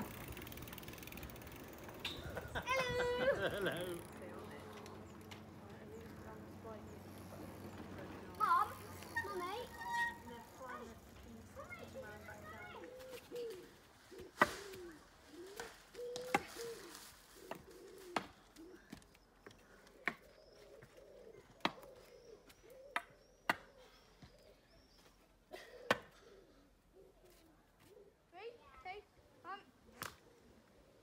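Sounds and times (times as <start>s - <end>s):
birds calling: 0.0s - 28.3s.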